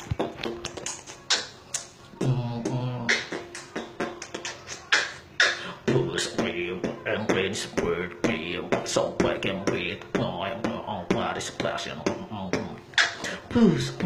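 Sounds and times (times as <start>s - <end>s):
beatboxing: 0.0s - 14.0s
pitched vocal notes: 0.0s - 14.0s.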